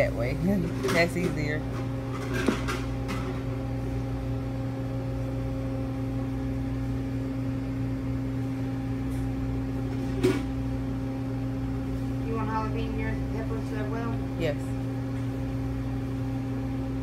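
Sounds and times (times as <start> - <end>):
low electrical hum of equipment: 0.0 - 17.0.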